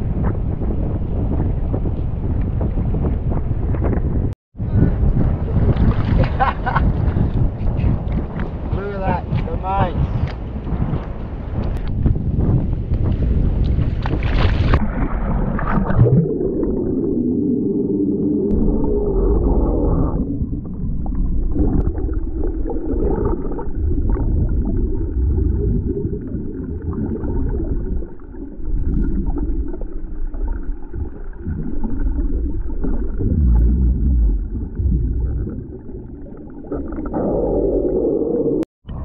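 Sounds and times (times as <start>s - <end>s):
underwater gurgling and bubbles: 0.0s - 8.7s, 11.6s - 39.0s.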